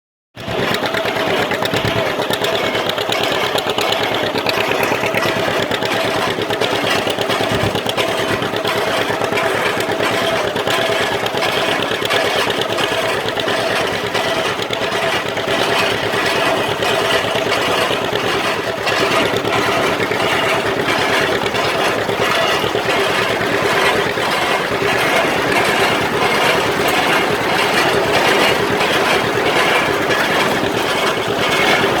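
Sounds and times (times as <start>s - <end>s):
hay baler mechanical clatter: 0.4s - 32.0s
tractor engine running: 0.4s - 32.0s.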